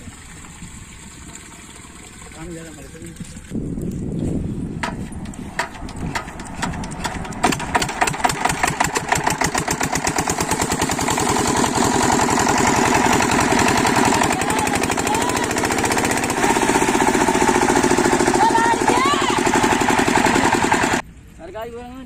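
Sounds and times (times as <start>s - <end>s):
diesel engine starting and knocking: 0.0s - 21.1s.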